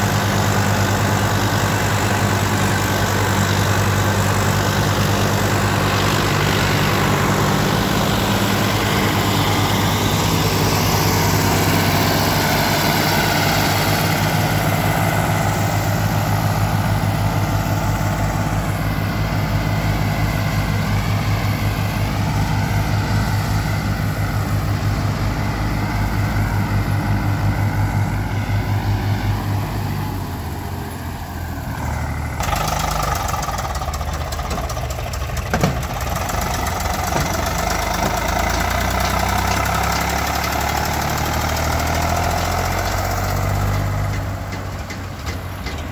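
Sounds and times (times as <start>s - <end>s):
lighter tractor engine running: 0.0s - 45.9s
tractor diesel engines under load: 0.0s - 45.9s.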